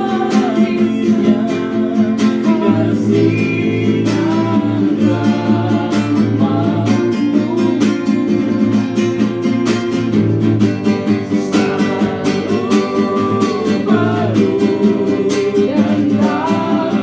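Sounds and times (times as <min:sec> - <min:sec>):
person singing slow worship song: 0:00.0 - 0:08.7, 0:11.1 - 0:17.0
strummed guitar: 0:00.0 - 0:17.0.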